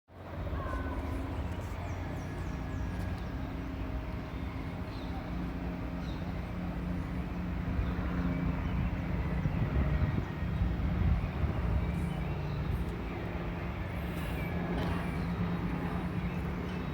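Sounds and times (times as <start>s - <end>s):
distant engines rumbling: 0.2s - 16.9s.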